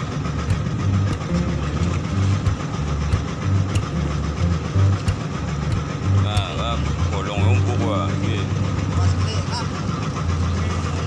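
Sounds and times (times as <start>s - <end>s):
boat engine throbbing: 0.0s - 11.0s
steady hum: 0.0s - 11.0s.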